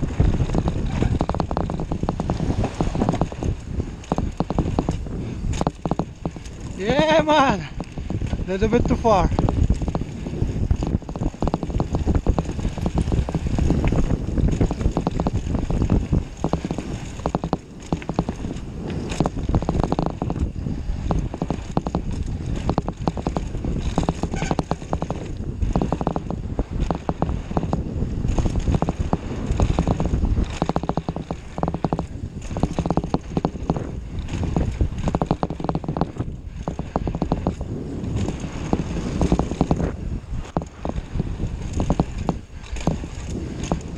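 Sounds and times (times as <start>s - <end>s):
bike rattling over bumps: 0.0s - 43.9s
tyres rolling over dirt: 0.0s - 43.9s
wind buffeting microphone: 0.0s - 43.9s.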